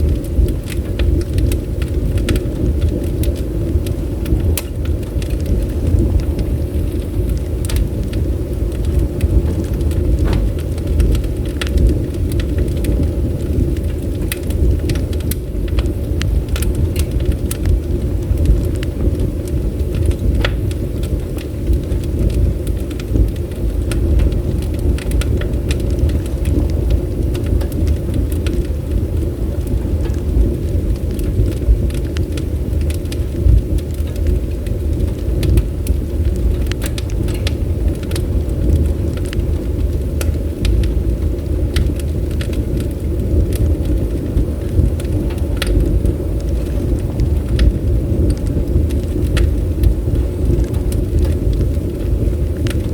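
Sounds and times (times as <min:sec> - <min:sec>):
bonfire crackling and popping: 0:00.0 - 0:52.9.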